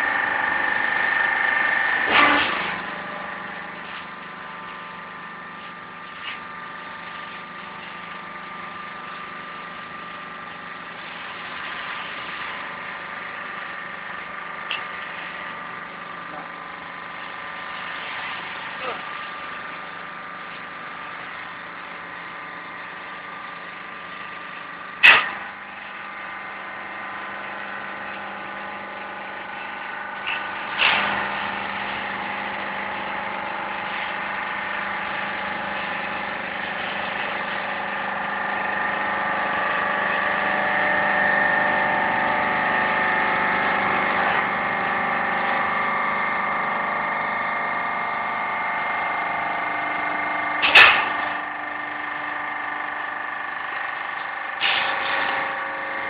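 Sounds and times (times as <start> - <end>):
baling press machine humming: 0.0 - 56.0.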